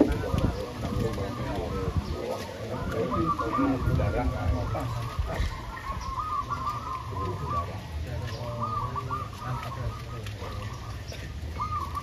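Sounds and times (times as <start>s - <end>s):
doves cooing: 0.0s - 12.0s.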